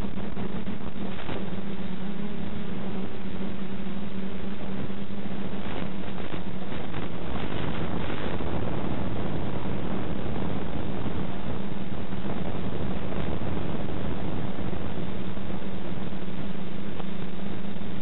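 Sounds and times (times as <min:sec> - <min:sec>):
radio static crackles: 0:00.0 - 0:03.2, 0:03.8 - 0:18.0
wind rushing over microphone: 0:00.0 - 0:18.0.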